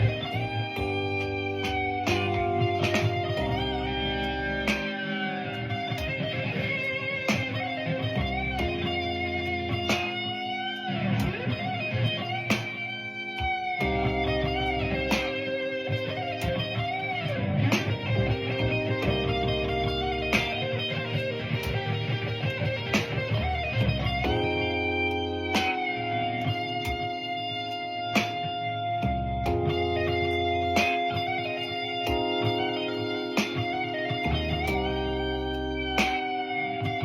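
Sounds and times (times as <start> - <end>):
bass line: 0.0 - 12.7, 13.8 - 27.2, 28.2 - 37.0
electric guitar blues lead: 0.0 - 37.0.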